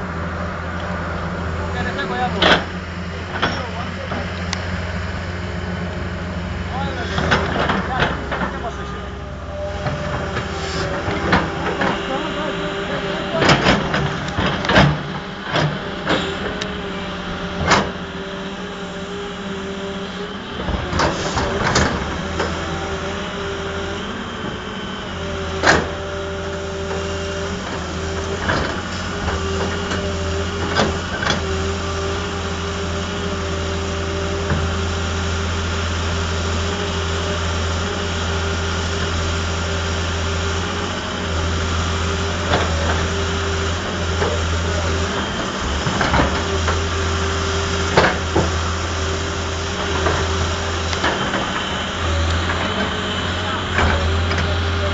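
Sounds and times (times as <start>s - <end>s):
heavy machine engine running: 0.0s - 54.9s.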